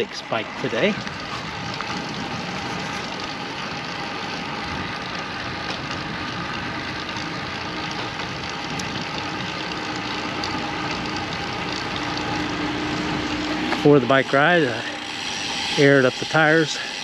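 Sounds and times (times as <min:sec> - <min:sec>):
rushing wind: 0:00.0 - 0:14.0
bicycle road noise: 0:00.0 - 0:17.0.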